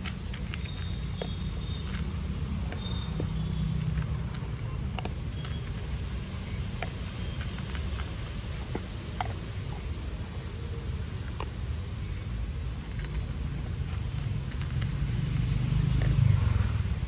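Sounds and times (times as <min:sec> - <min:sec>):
dog crunching dry kibble: 0:00.0 - 0:17.0.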